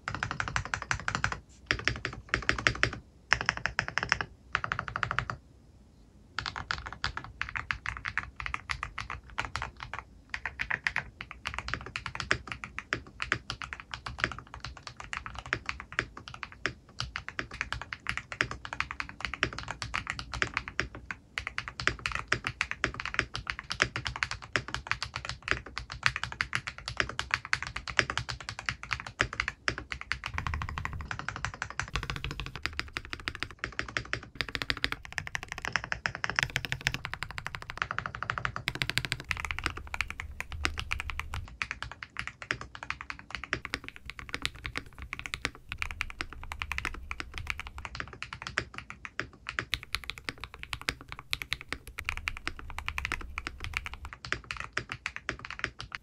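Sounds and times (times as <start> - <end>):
typing on mechanical keyboard: 0.0 - 5.4, 6.4 - 56.0.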